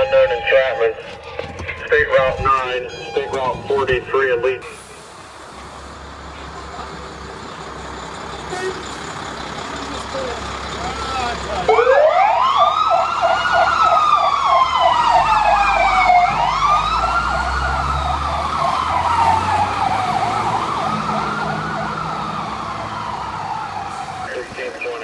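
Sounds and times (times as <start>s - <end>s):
fire truck siren wail and yelp: 0.0s - 25.0s
truck engine rumbling: 0.0s - 25.0s.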